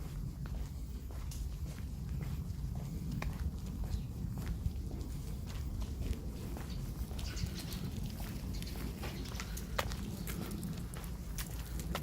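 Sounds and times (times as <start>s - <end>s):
footsteps walking: 0.0s - 12.0s
steady low rumble: 0.0s - 12.0s.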